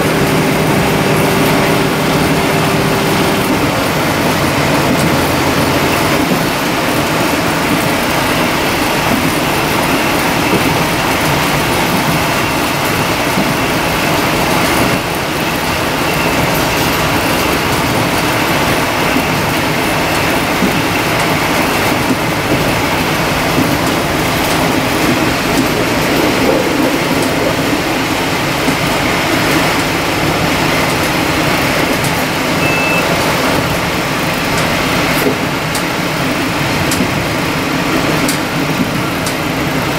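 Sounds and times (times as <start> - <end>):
diesel engine running: 0.0 - 39.9
wheels on rails: 0.0 - 39.9.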